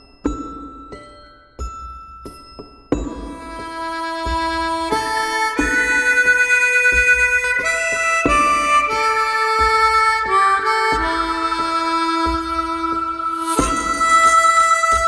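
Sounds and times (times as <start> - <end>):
background music with slow beat: 0.0 - 15.0.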